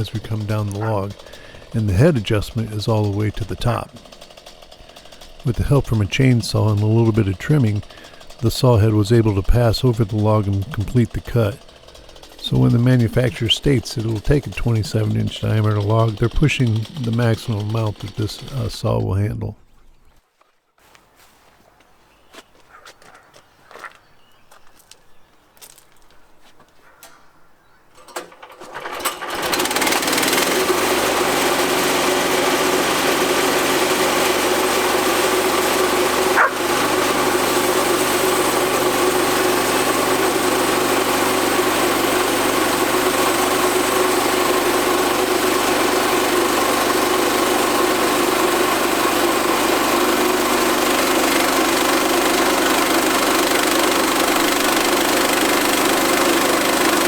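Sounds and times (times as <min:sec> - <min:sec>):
sawmill engine running: 0:00.0 - 0:19.5, 0:28.0 - 0:57.0.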